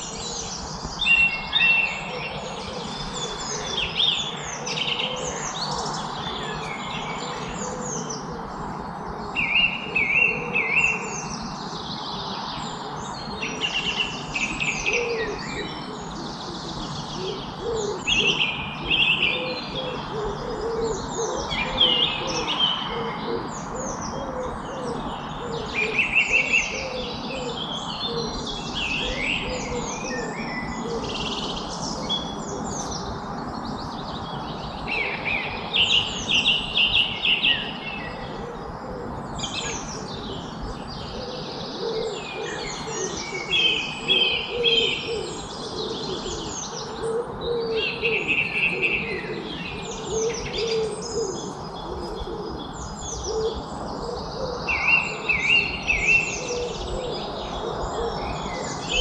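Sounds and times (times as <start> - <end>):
songbirds chirping and trilling: 0.0 - 59.0
steady background hiss: 0.0 - 59.0.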